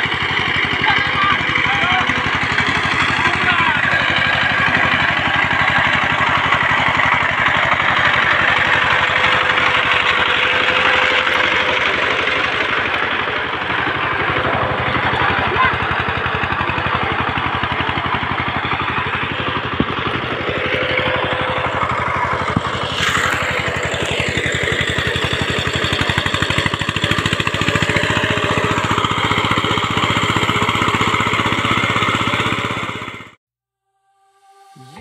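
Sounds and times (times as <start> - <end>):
tractor engine running: 0.0 - 33.4.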